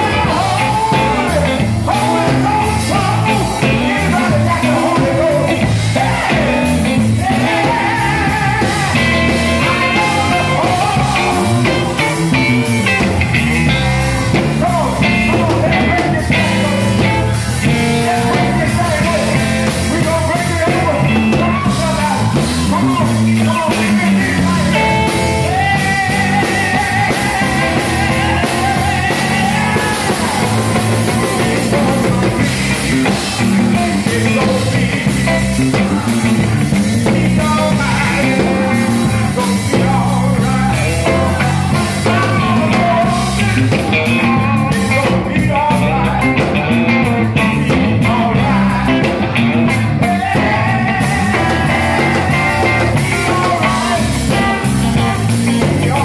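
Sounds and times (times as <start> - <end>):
gospel instrumental backing: 0.0 - 56.0
man singing into a microphone: 0.0 - 56.0.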